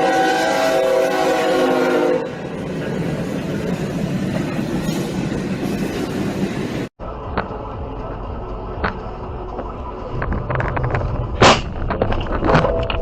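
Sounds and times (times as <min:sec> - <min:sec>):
steady rumbling noise: 0:02.3 - 0:13.0.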